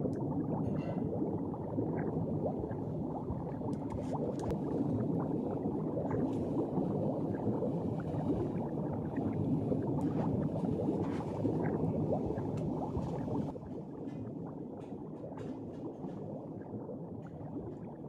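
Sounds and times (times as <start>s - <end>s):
underwater bubbling: 0.0s - 18.0s.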